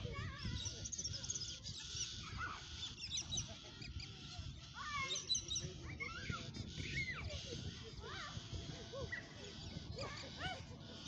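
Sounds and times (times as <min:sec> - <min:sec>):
birds calling and twittering: 0:00.0 - 0:11.0.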